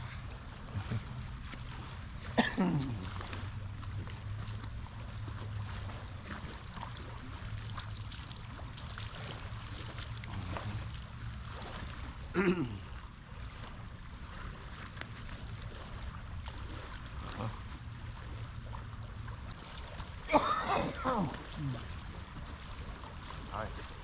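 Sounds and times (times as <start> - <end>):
creek water running: 0.0 - 24.0.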